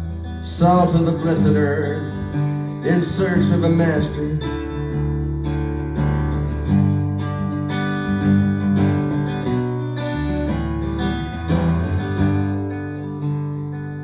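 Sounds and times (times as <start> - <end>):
acoustic guitar strumming chords: 0.0 - 14.0
low bass line: 0.0 - 14.0.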